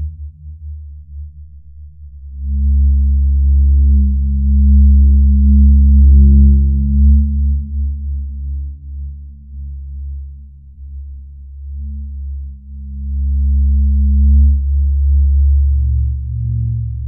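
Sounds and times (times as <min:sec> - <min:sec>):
deep steady hum: 0:00.0 - 0:17.0.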